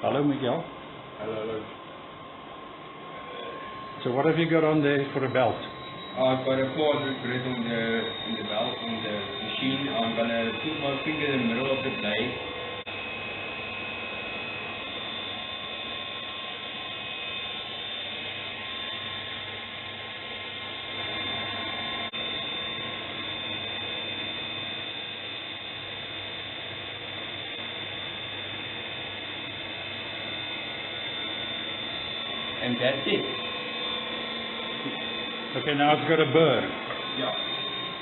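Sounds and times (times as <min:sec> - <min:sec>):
belt sander running: 0:03.6 - 0:38.0.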